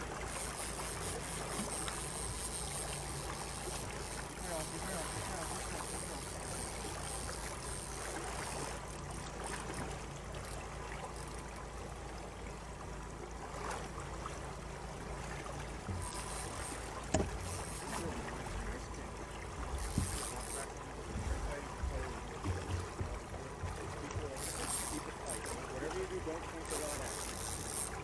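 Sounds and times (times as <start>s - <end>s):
water sloshing against boat hull: 0.0s - 28.0s.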